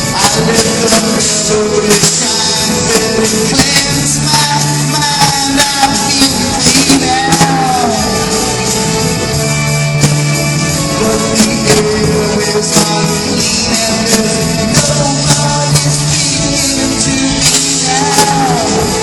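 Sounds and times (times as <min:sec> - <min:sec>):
drum beat: 0:00.0 - 0:19.0
held string notes: 0:00.0 - 0:19.0.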